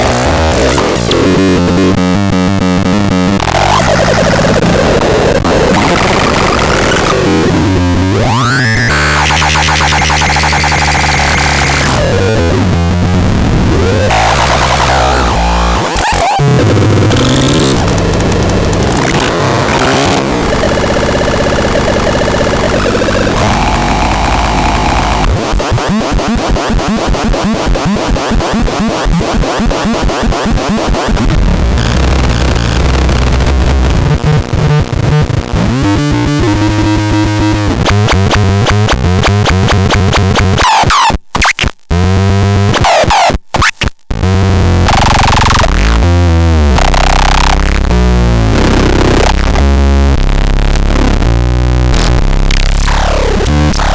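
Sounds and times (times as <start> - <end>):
glitchy electronic noise: 0.0 - 53.9.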